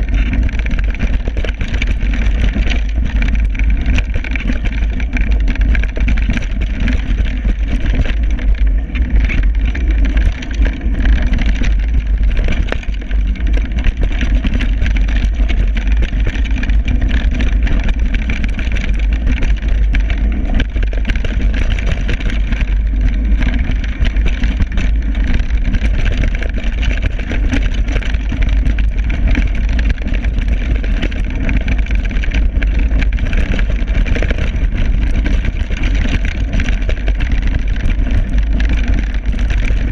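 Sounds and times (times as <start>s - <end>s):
bike rattling and knocking: 0.0s - 39.9s.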